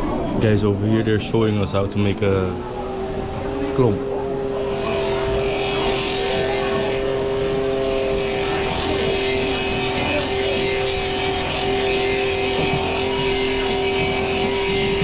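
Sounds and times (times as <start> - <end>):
woodcarving machine whining: 1.4 - 15.0.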